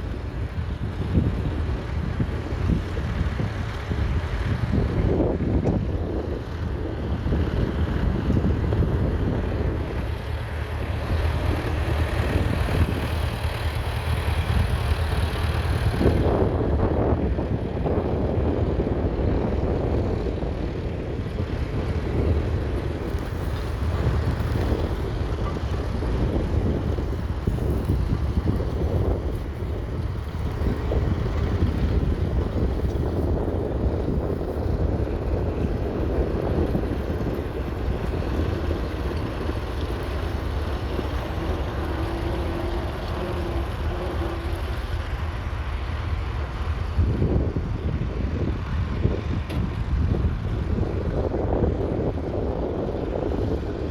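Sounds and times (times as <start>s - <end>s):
tractor engine running steadily: 0.0s - 53.9s
wind buffeting microphone: 0.0s - 53.9s.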